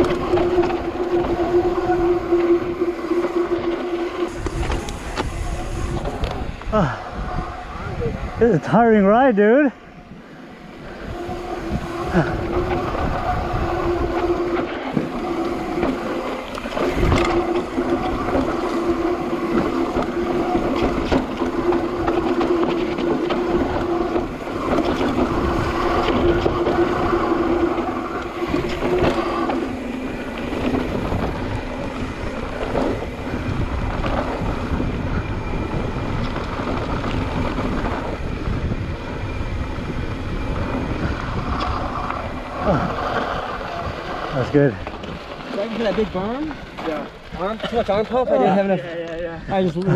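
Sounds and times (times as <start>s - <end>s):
wind rushing over microphone: 0.0s - 47.4s
bike tyres rolling on dirt: 0.0s - 49.9s.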